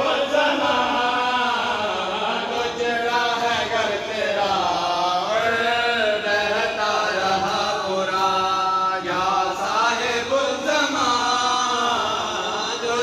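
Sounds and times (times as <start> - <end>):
man chanting a lament: 0.0 - 13.0.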